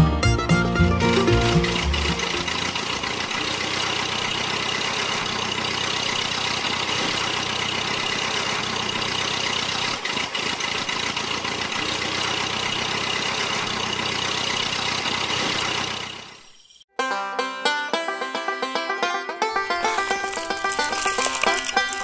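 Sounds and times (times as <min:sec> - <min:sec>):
toy tractor motor whining: 0:00.8 - 0:16.9, 0:19.7 - 0:22.0.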